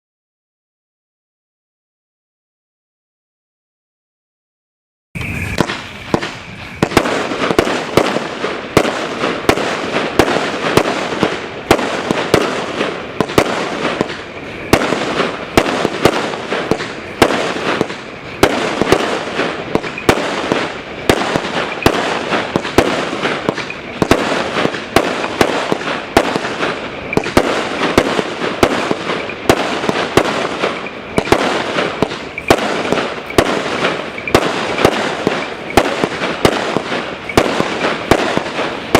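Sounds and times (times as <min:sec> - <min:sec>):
fireworks hiss and crackle: 0:05.2 - 0:38.9
fireworks shot reports: 0:05.2 - 0:38.9.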